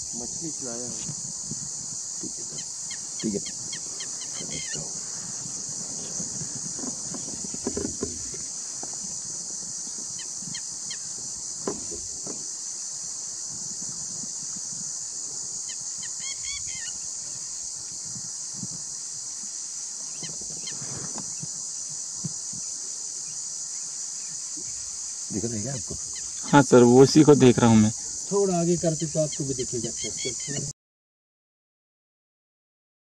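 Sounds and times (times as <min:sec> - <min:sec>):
insect chorus drone: 0:00.0 - 0:30.7.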